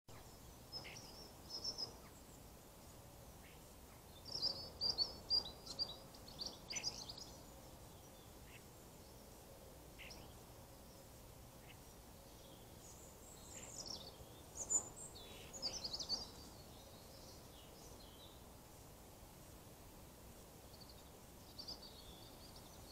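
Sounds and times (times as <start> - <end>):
faint steady hiss: 0.1 - 22.9
small birds chirping: 0.1 - 22.9.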